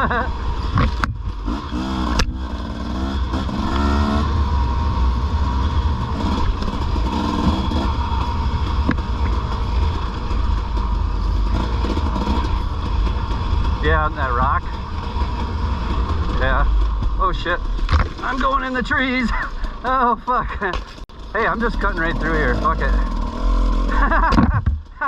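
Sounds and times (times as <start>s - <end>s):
dirt bike engine accelerating: 0.0s - 25.0s.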